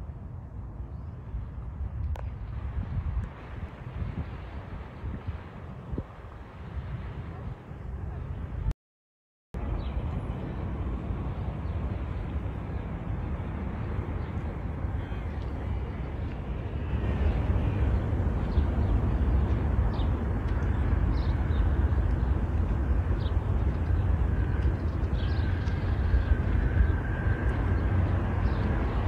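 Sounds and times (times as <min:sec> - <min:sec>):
wind buffeting microphone: 0:00.0 - 0:08.7, 0:09.6 - 0:29.0.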